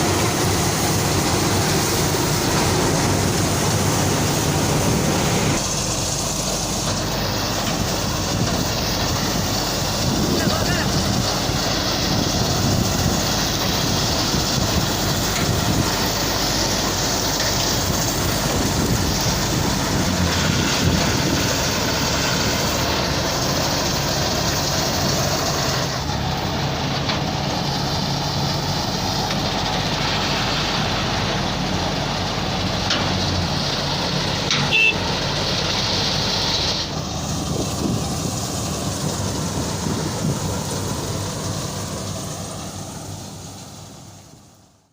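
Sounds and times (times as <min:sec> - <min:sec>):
machinery clatter: 0:00.0 - 0:43.0
combine harvester engine drone: 0:00.0 - 0:44.9.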